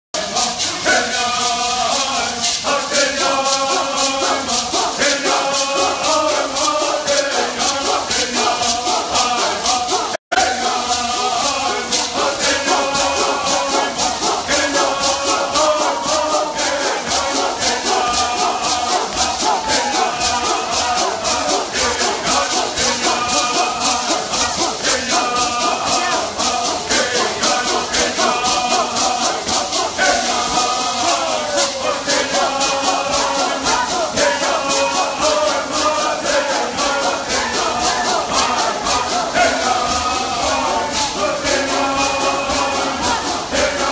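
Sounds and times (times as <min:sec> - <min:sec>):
gourd rattles shaken rhythmically: 0:00.2 - 0:43.9
voices chanting together: 0:00.2 - 0:43.9.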